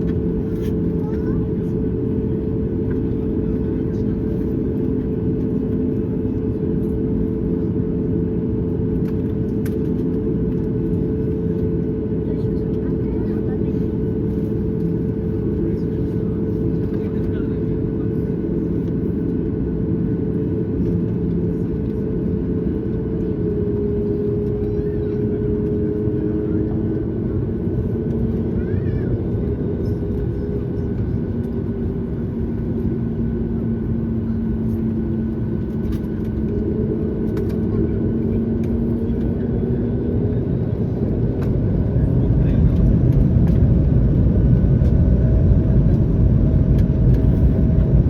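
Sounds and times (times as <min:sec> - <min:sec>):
jet engines rumbling: 0:00.0 - 0:48.0.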